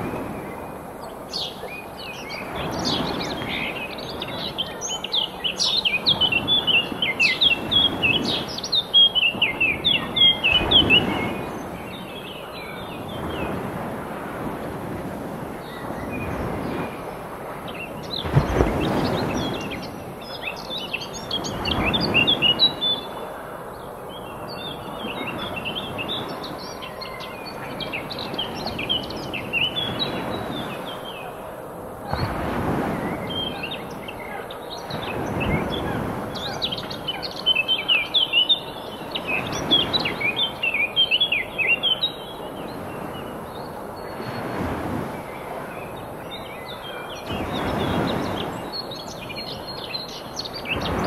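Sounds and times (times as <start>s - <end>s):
waves washing on shore: 0.0s - 51.0s
small birds chirping: 0.1s - 13.8s, 15.6s - 31.5s, 32.1s - 51.0s.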